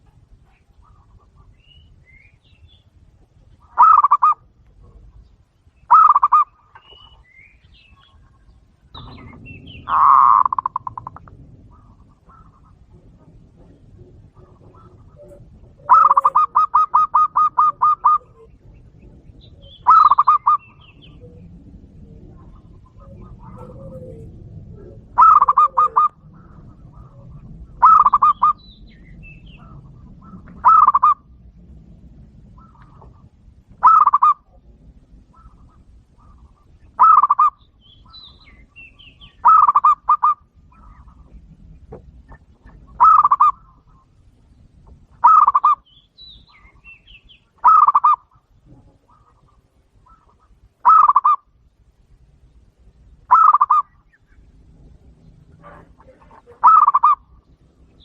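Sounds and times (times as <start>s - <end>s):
small birds chirping: 0.0s - 58.0s
dove cooing: 3.4s - 45.8s, 47.5s - 51.6s, 53.2s - 58.0s.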